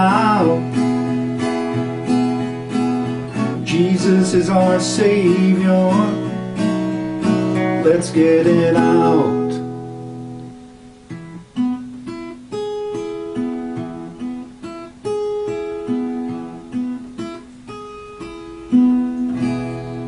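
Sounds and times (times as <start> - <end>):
acoustic guitar picked melody: 0.0 - 20.0.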